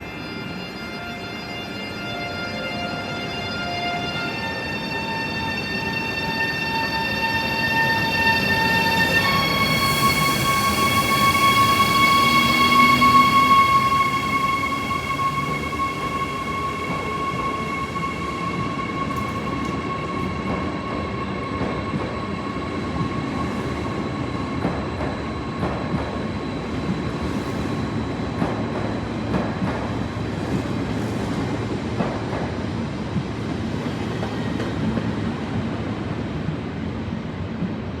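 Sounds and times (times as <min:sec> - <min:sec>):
electric train whine: 0:00.0 - 0:38.0
train rumble: 0:02.0 - 0:38.0.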